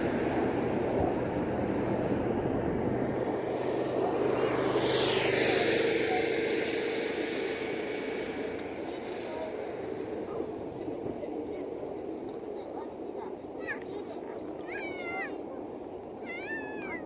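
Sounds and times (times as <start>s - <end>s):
aircraft engine drone: 0.0s - 17.0s
high engine whine: 0.0s - 17.0s.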